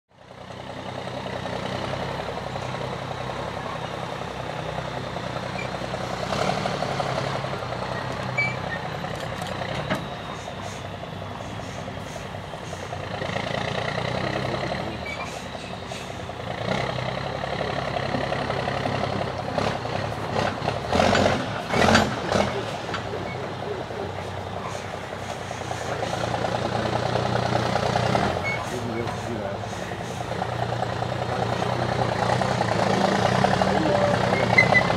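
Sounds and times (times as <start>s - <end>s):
diesel truck engine running: 0.1s - 34.9s.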